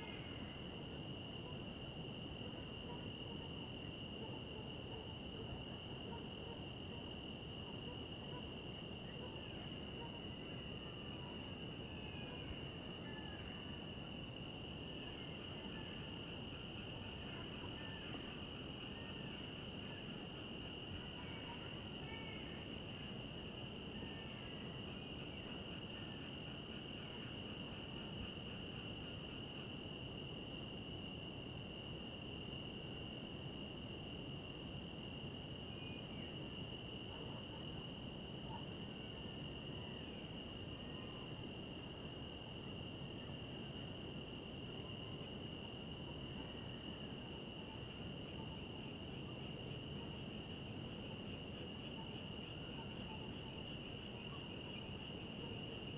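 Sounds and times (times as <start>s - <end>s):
crickets trilling: 0.0s - 55.9s
low steady hiss: 0.0s - 55.9s.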